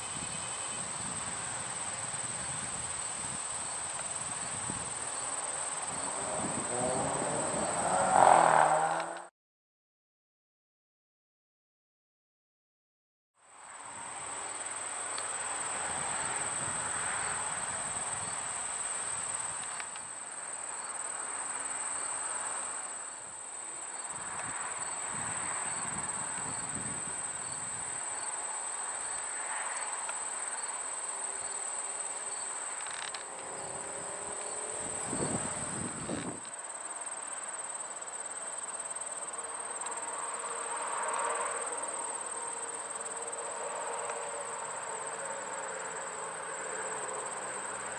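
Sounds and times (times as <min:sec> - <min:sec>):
shrill insect chorus: 0:00.0 - 0:08.9, 0:13.6 - 0:47.9.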